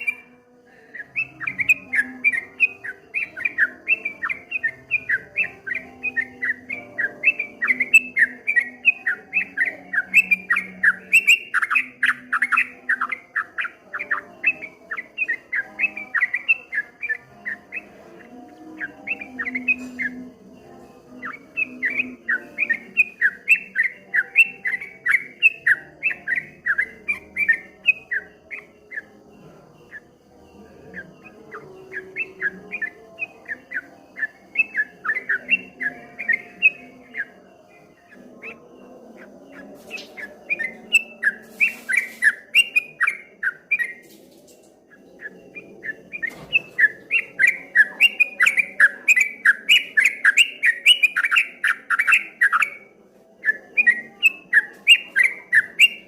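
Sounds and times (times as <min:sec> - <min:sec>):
bird singing chirping notes: 0:00.0 - 0:56.0
faint low background tones: 0:00.0 - 0:56.0.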